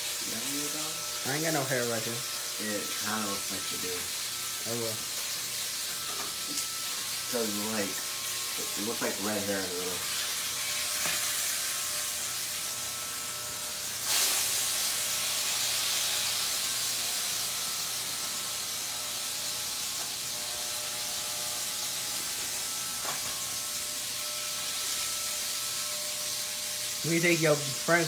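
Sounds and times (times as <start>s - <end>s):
blades shearing hair: 0.0s - 28.0s
hair clippers buzzing: 0.0s - 28.0s.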